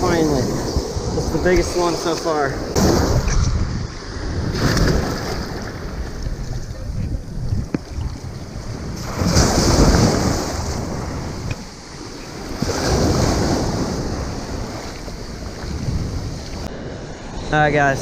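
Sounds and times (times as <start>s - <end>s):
waves breaking on beach: 0.0s - 6.8s, 7.8s - 18.0s
wind buffeting microphone: 0.0s - 18.0s.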